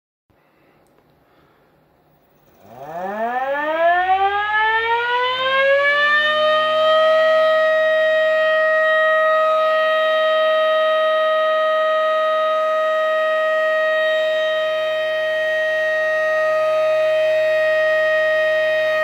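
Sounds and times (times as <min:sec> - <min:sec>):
warning siren wailing: 0:02.4 - 0:19.0.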